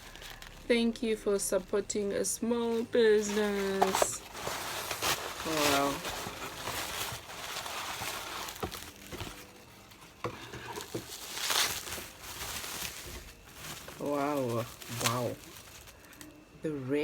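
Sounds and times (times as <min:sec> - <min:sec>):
packaging rustling and crinkling: 0:00.0 - 0:00.7, 0:02.4 - 0:16.4.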